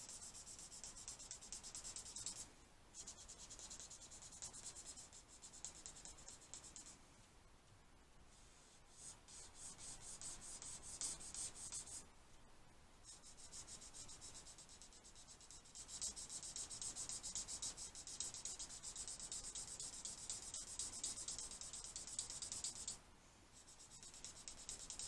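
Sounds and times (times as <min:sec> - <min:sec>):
marker nib rubbing on paper: 0:00.0 - 0:06.9, 0:08.3 - 0:12.0, 0:13.0 - 0:23.0, 0:23.6 - 0:25.0.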